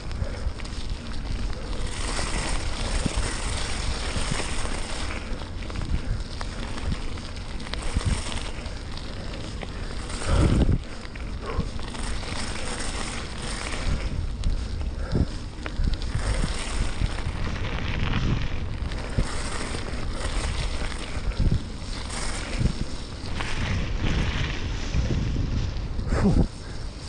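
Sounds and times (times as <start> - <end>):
bike tyres crunching on gravel: 0.0 - 27.0
low rumble: 0.0 - 27.0
wind buffeting microphone: 0.0 - 27.0.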